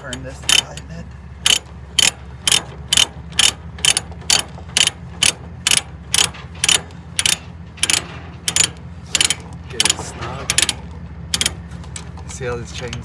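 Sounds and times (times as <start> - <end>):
ratchet pawl clicking: 0.0 - 12.0.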